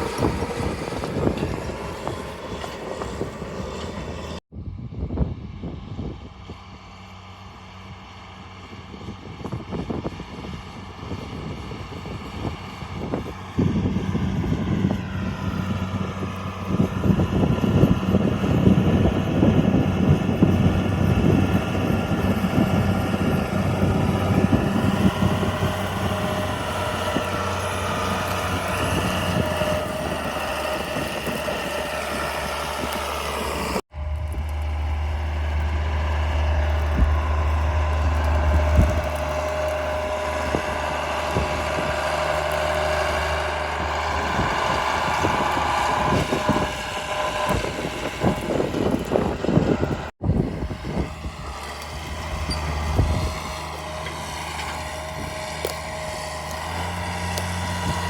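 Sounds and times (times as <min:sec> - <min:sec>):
tractor diesel engine running: 0:00.0 - 0:04.4, 0:05.5 - 0:58.0.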